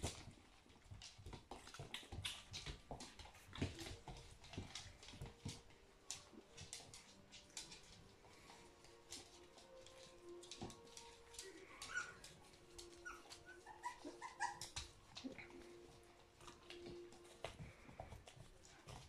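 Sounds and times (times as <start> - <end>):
paws clicking on wooden floor: 0.0 - 19.0
puppies whimpering: 1.7 - 19.0.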